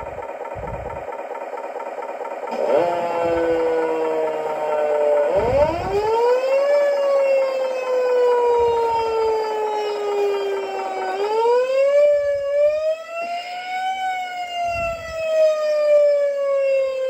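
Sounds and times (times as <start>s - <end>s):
simulated siren wail: 0.0s - 17.0s.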